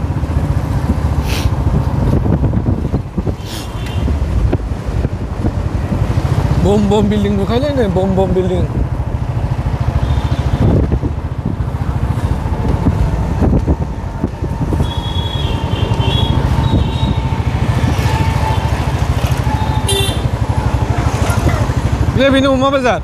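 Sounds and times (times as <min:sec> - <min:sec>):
wind buffeting microphone: 0:00.0 - 0:07.1, 0:08.1 - 0:19.7
motorcycle engine: 0:00.0 - 0:23.0
street traffic: 0:00.0 - 0:23.0.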